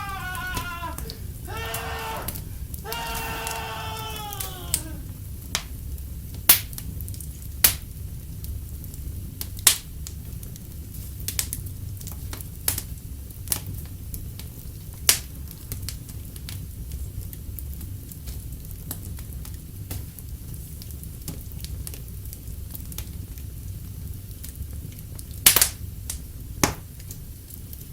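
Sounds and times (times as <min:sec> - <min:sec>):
fire pops: 0:00.0 - 0:27.9
wood fire crackling: 0:00.0 - 0:27.9.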